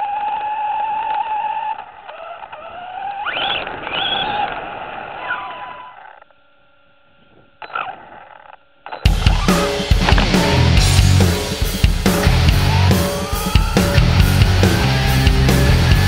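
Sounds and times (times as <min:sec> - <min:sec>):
electric motor whining: 0:00.0 - 0:06.3, 0:09.1 - 0:16.0.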